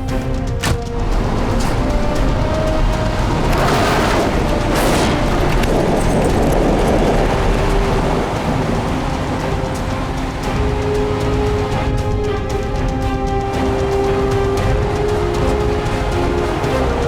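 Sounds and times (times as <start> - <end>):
diesel truck engines rumbling: 0.0 - 17.0
rushing hiss: 0.0 - 17.0.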